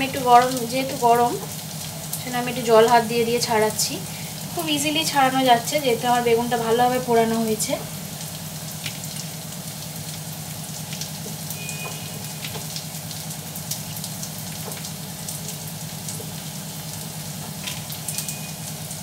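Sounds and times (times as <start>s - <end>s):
onions sizzling in a pan: 0.0s - 19.0s.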